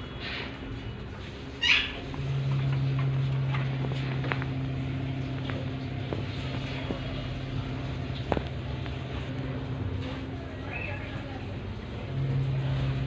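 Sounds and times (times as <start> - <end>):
low motor hum: 0.6 - 13.0.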